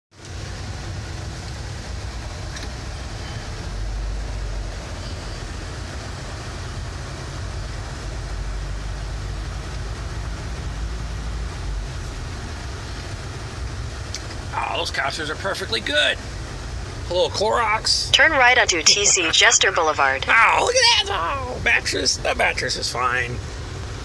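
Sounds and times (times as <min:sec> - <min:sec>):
car engine and tyre rumble: 0:00.1 - 0:24.0
soft road hiss: 0:00.2 - 0:20.2, 0:20.9 - 0:24.0.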